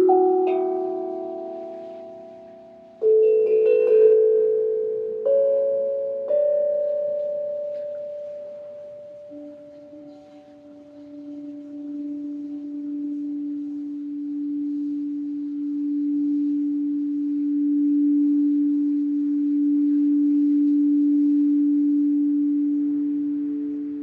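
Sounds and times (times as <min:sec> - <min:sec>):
singing bowl low tone: 0:00.0 - 0:24.0.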